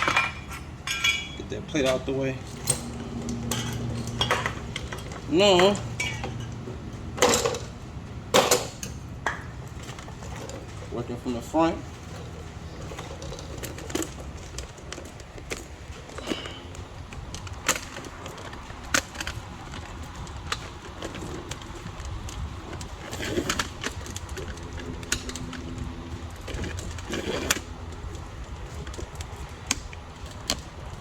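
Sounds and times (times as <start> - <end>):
metal clicks and clanks: 0.0 - 30.7.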